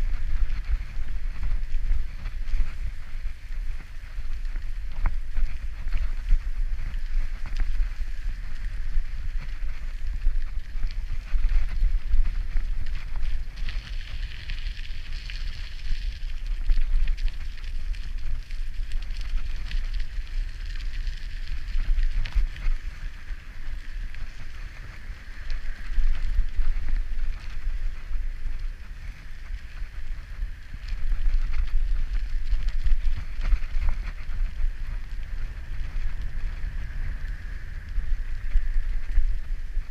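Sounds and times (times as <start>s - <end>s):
bike clicks and rattles: 0.0s - 39.9s
tyres rolling on wet path: 0.0s - 39.9s
wind buffeting microphone: 0.0s - 39.9s.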